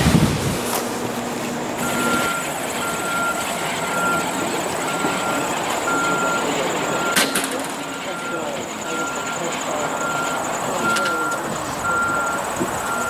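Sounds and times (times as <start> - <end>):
chairlift machinery running: 0.0 - 13.0
short electronic beeps: 1.8 - 13.0.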